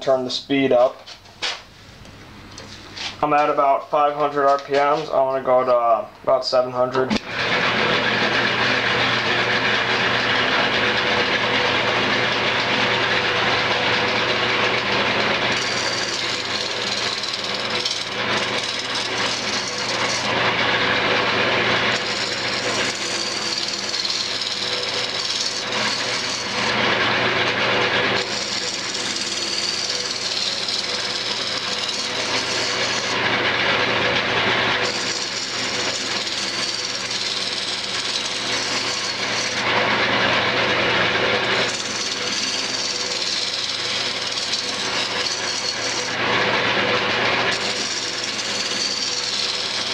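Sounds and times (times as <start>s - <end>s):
gouge cutting spinning wood: 7.2s - 49.9s
wood lathe motor hum: 7.2s - 49.9s.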